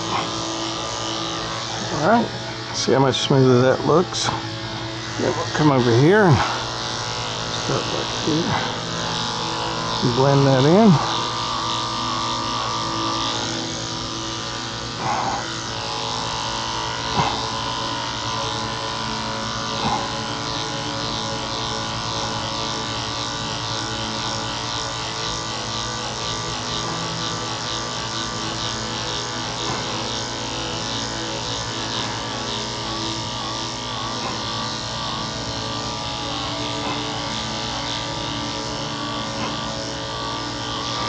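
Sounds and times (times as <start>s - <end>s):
electric dog clippers buzzing: 0.0s - 41.0s.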